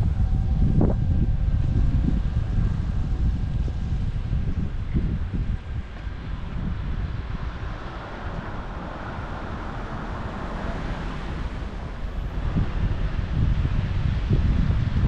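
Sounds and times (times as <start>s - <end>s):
passing traffic: 0.0s - 15.0s
wind buffeting microphone: 0.0s - 15.0s.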